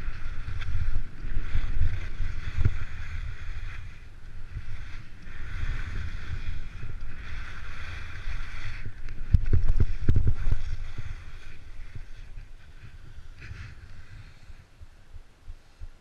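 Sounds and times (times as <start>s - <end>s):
skis scraping over snow: 0.0s - 15.9s
wind buffeting microphone: 0.0s - 16.0s.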